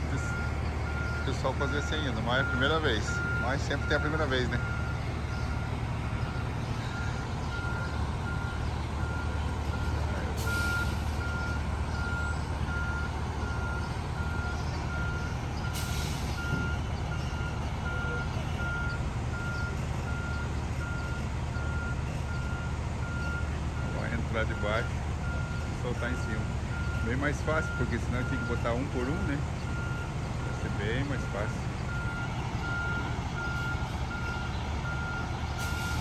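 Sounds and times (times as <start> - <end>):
diesel engines running: 0.0 - 36.0.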